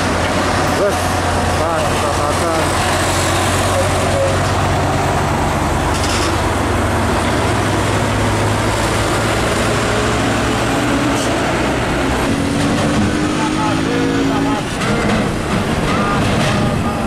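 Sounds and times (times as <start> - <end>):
traffic and tyre noise: 0.0 - 17.0
trucks driving past: 0.0 - 17.0.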